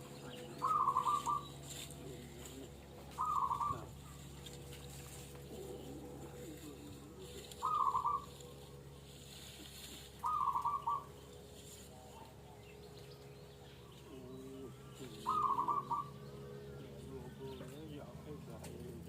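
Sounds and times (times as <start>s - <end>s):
fainter lower bird calls: 0.0s - 18.5s
doves cooing: 0.0s - 19.0s
steady low hum: 0.0s - 19.0s.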